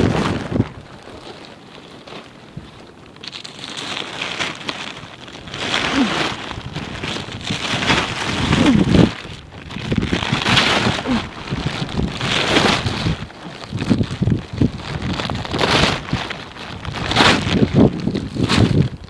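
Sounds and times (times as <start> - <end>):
gusting wind: 0.0 - 19.0.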